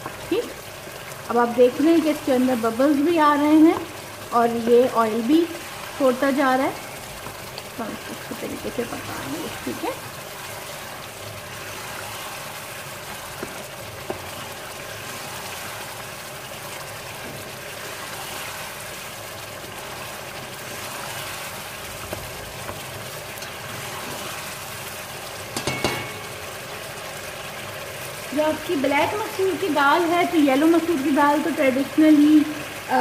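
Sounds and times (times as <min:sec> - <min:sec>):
paste sizzling in oil: 0:00.0 - 0:33.0.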